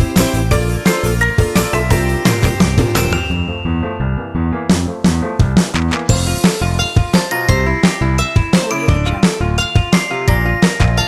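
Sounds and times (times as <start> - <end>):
background music with quick beat: 0.0 - 3.6, 4.7 - 11.0.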